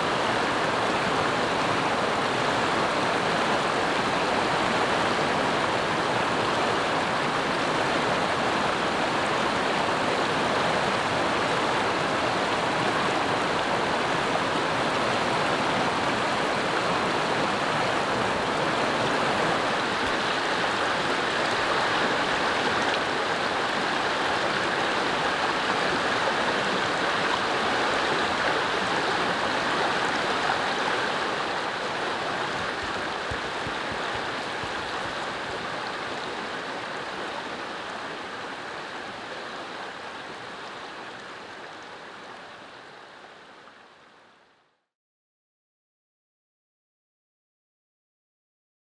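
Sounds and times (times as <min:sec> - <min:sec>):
stream rushing over rocks: 0:00.0 - 0:44.4.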